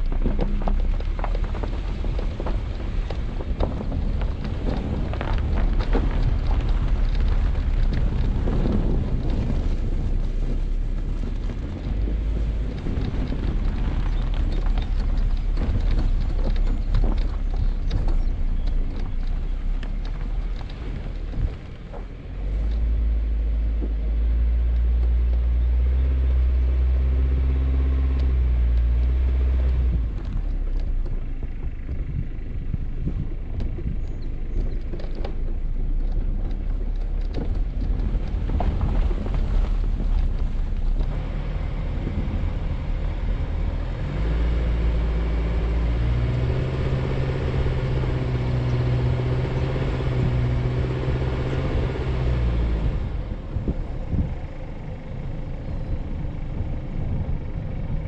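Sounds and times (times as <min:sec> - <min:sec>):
sand and stones clicking: 0:00.0 - 0:58.0
tires crunching through sand: 0:00.0 - 0:58.0
vehicle engine running: 0:00.0 - 0:58.0.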